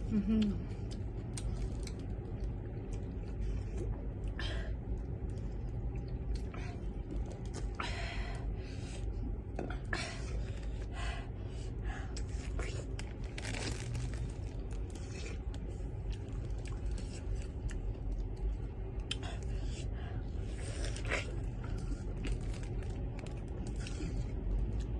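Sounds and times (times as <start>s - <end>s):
steady low hum: 0.0s - 24.9s
chewing and crunching food: 0.4s - 7.8s, 12.0s - 24.9s.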